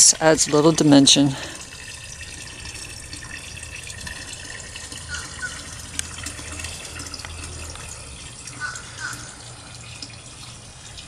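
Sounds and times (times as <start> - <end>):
noise like running water: 0.0 - 11.0.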